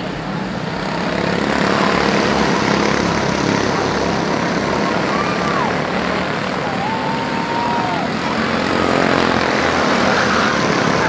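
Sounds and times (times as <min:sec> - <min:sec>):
race car engines buzzing: 0:00.0 - 0:11.0.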